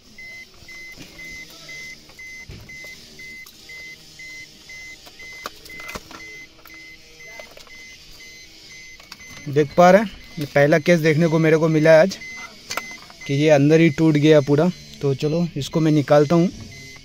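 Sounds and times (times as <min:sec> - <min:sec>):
dashboard warning chime beeping: 0:00.0 - 0:17.0.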